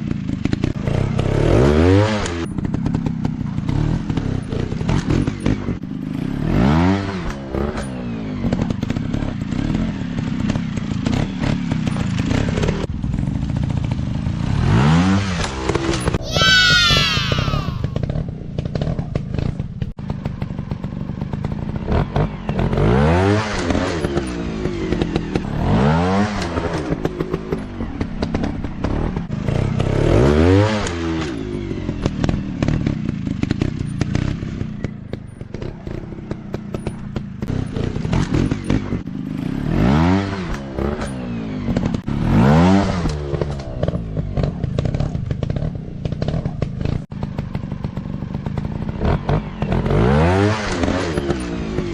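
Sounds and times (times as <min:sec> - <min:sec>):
dirt bike engines revving: 0:00.1 - 0:51.9.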